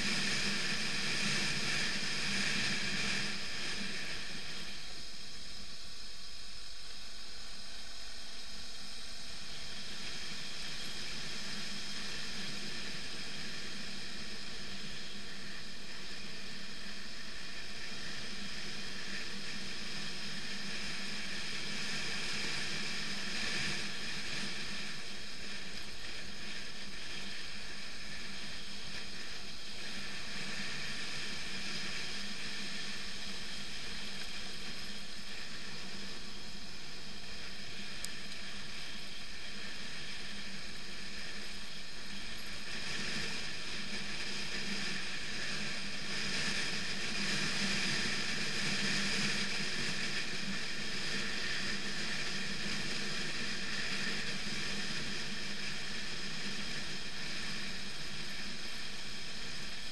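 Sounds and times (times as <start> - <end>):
wind hiss: 0.0 - 59.9.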